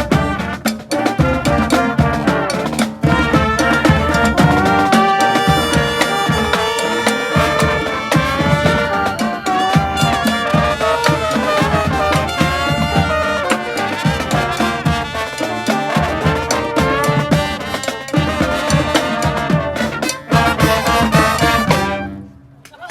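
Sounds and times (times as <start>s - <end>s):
brass band playing: 0.0s - 22.6s.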